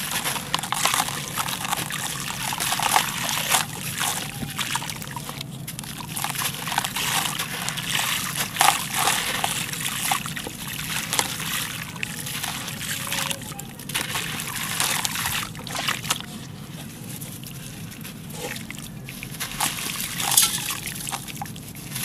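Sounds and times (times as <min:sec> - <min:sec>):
hands squelching wet cement: 0:00.0 - 0:22.0.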